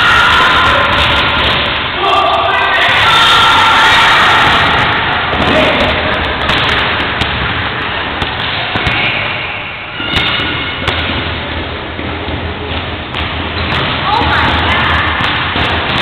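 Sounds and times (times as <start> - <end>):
crackling gym noise: 0.0 - 16.0.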